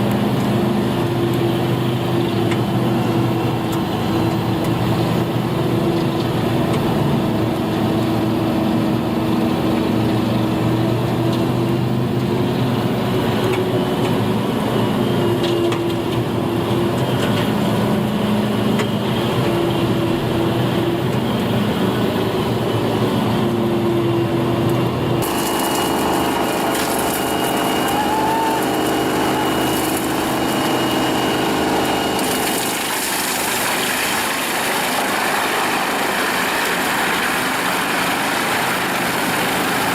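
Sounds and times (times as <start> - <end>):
engine with high whine: 0.0 - 39.9
wood chipper engine running: 0.0 - 39.9.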